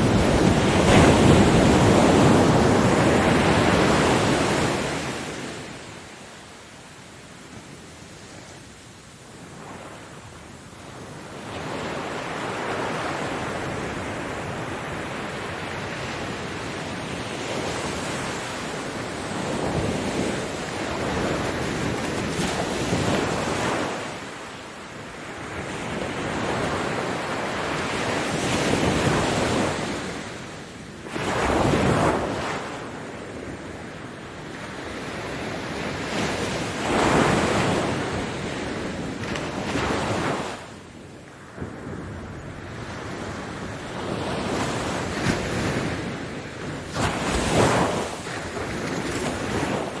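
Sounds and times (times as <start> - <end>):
ocean surf breaking: 0.0 - 7.0, 9.4 - 50.0.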